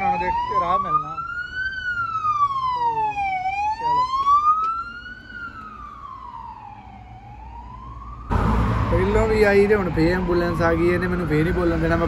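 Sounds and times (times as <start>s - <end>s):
ambulance siren wailing: 0.0s - 12.0s.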